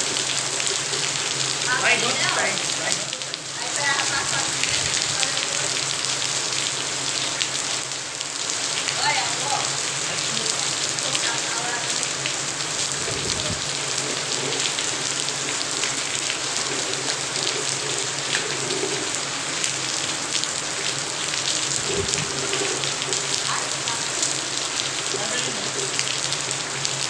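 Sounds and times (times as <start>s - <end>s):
rain on concrete and tiled roof: 0.0s - 27.0s.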